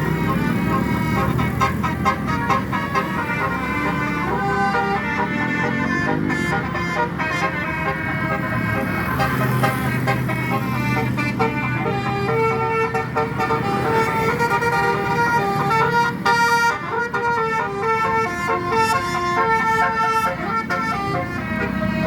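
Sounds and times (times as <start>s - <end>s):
musical bus horn melody: 0.0s - 22.0s.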